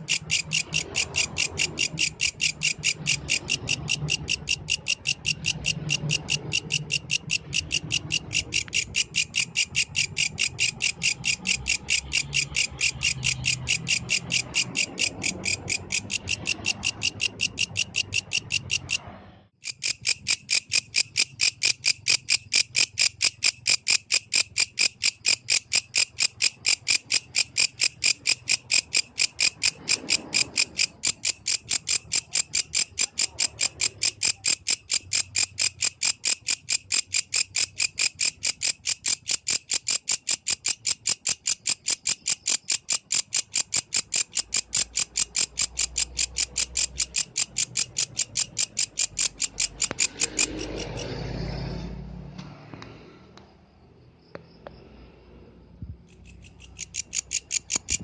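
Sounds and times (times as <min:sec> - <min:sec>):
grasshopper chirping: 0:00.0 - 0:19.0, 0:19.6 - 0:51.2, 0:55.8 - 0:58.0.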